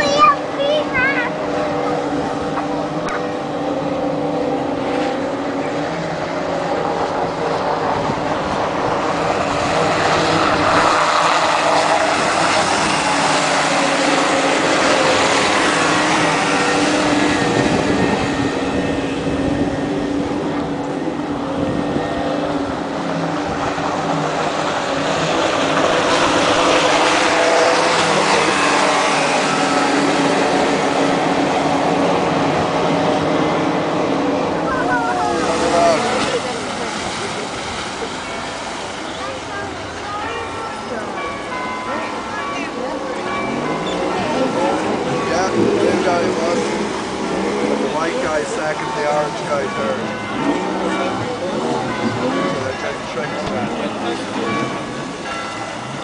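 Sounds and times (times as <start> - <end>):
racing boat outboard engines: 0.0 - 56.0.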